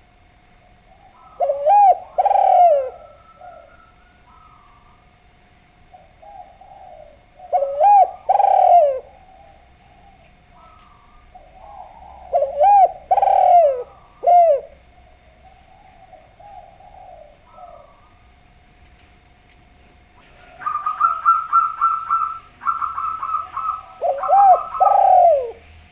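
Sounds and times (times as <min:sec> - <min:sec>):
dove cooing: 0:00.0 - 0:18.7, 0:19.8 - 0:25.9.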